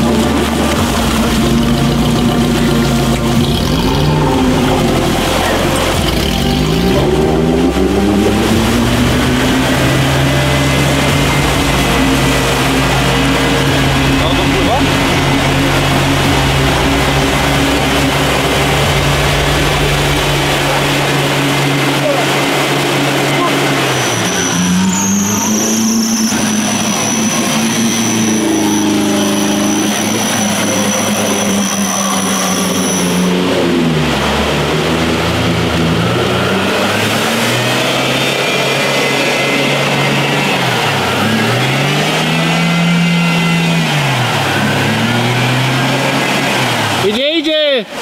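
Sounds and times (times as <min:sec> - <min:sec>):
thin high whine: 0:00.0 - 0:47.2
engine revving: 0:00.0 - 0:48.0.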